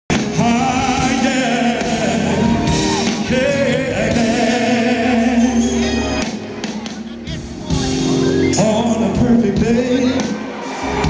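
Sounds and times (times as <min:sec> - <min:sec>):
man singing with vibrato: 0:00.1 - 0:10.5
r and b band playing: 0:00.1 - 0:11.0.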